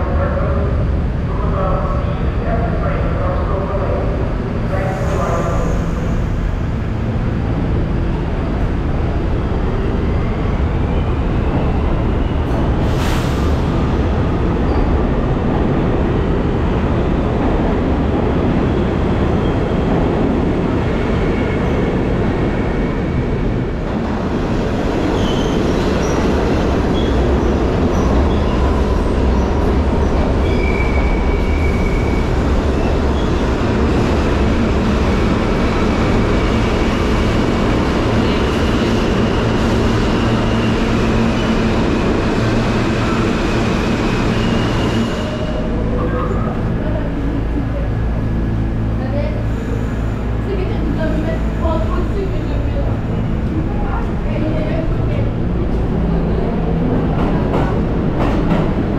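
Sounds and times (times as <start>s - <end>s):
train approaching: 0.0s - 58.9s
train wheels rumbling on track: 0.0s - 58.9s.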